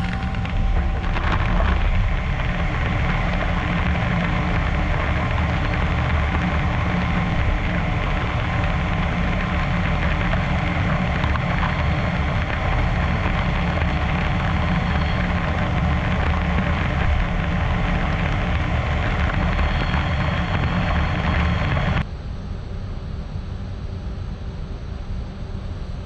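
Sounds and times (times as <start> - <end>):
lathe cutting metal: 0.0 - 22.0
machine hum: 0.0 - 25.0
faint high whine: 0.0 - 26.0.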